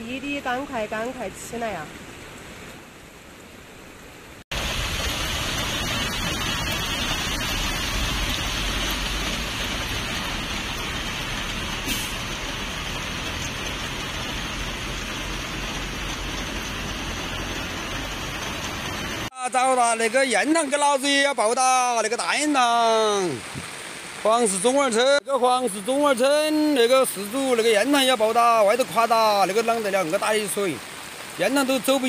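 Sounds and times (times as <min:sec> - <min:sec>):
heavy rain and rushing floodwater: 0:00.0 - 0:32.0.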